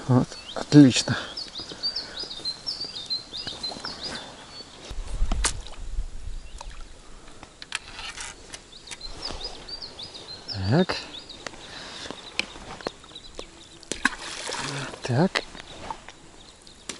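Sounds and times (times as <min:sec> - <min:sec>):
songbird chirping: 0:00.0 - 0:16.9.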